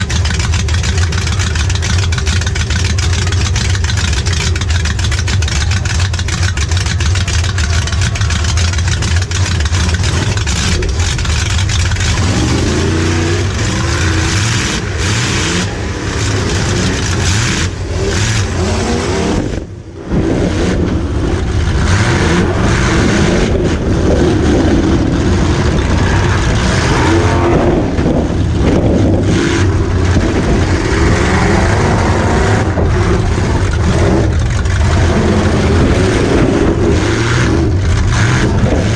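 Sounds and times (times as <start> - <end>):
knocks and rattles: 0.0 - 18.6, 21.7 - 38.9
car engine revving: 0.0 - 38.9.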